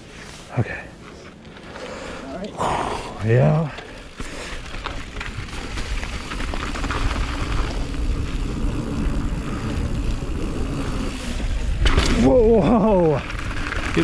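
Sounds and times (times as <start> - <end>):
bike tyre noise: 0.0 - 14.0.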